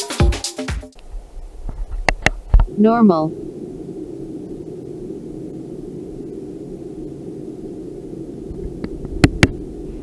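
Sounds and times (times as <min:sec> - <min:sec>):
low hum with faint hiss: 0:01.0 - 0:10.0.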